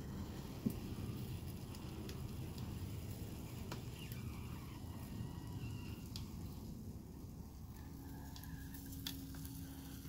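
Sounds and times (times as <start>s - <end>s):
low steady hum: 0.0s - 10.0s
wood fire crackling: 0.0s - 10.0s.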